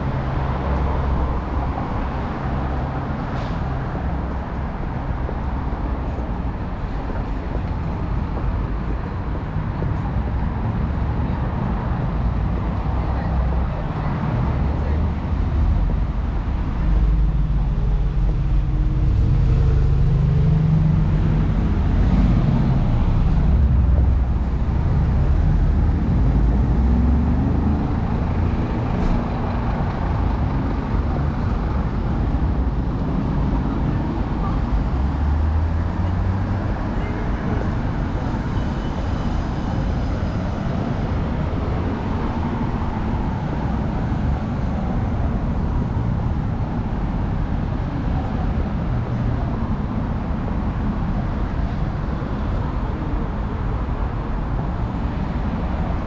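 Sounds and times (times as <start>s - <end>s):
cars driving past: 0.0s - 56.0s
heavy low engine rumble: 0.0s - 56.0s.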